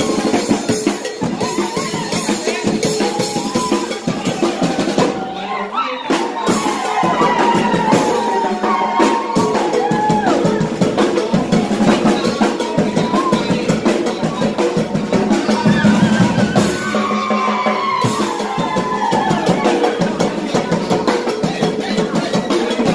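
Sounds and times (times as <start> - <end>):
marching drums beating: 0.0 - 5.4, 6.1 - 22.9.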